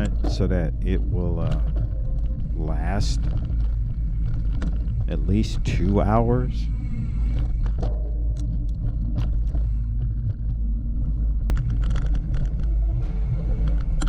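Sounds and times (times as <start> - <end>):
wind and tyres rumbling: 0.0 - 14.0.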